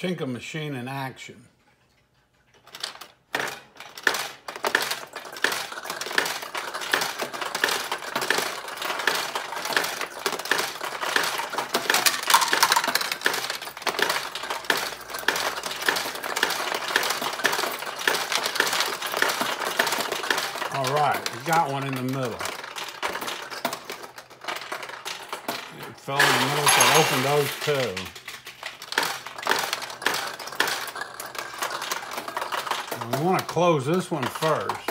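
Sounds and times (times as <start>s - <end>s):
pachinko balls clattering: 2.5s - 34.9s.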